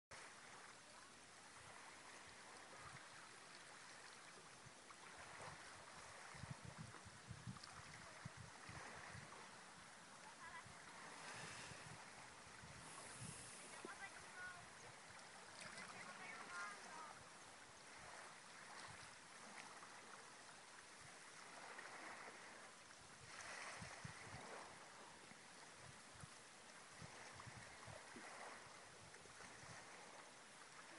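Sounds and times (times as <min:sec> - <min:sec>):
river water lapping on stones: 0:00.2 - 0:30.9
water trickling: 0:00.2 - 0:30.9.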